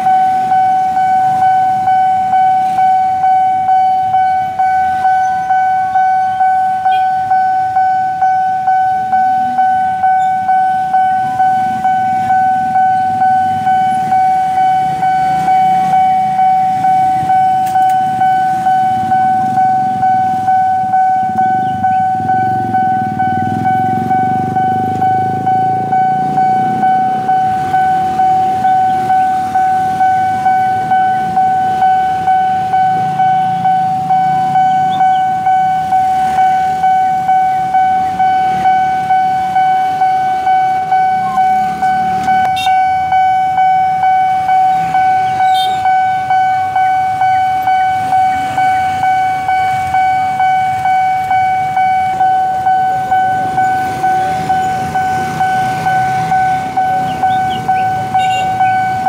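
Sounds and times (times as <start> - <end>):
level crossing warning bell: 0.0 - 59.0
motorcycle and minibus engines: 0.0 - 59.0.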